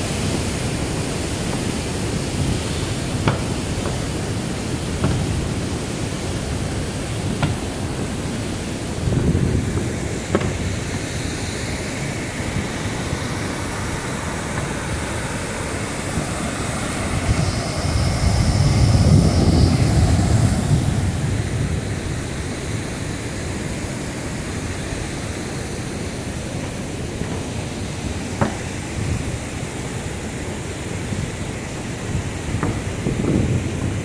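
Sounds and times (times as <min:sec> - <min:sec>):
waterfall pouring over rocks: 0:00.0 - 0:34.0.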